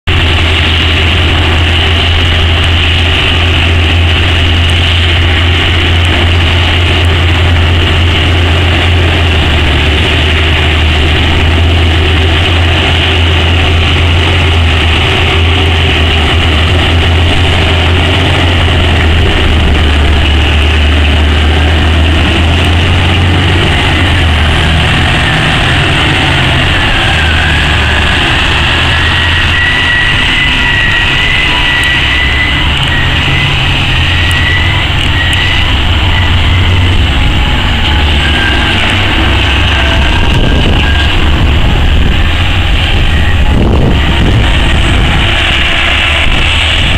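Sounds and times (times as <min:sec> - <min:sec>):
heavy diesel engines droning: 0:00.0 - 0:46.9
high machine whine: 0:00.1 - 0:46.9
wavering whine: 0:00.1 - 0:46.9.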